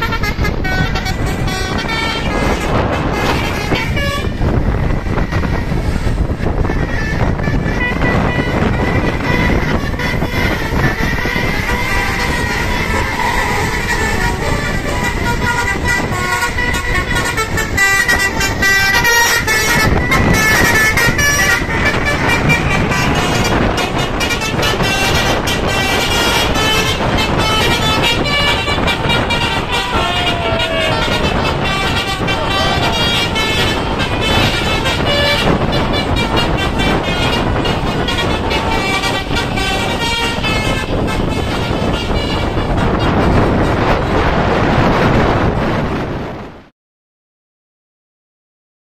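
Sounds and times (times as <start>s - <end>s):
bus horn playing a melody: 0.0s - 46.2s
vehicle noise: 0.0s - 46.7s.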